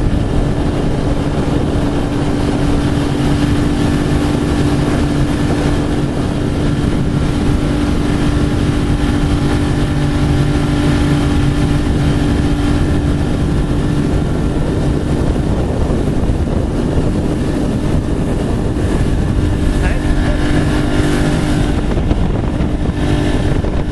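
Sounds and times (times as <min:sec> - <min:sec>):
boat motor droning: 0:00.0 - 0:23.9.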